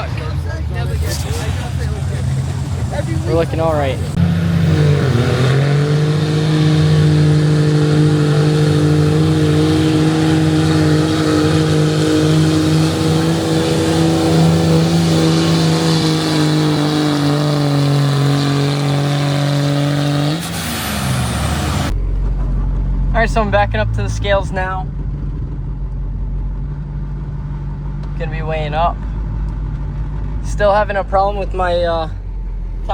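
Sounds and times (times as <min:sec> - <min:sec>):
diesel truck engine revving high: 0:00.0 - 0:32.9.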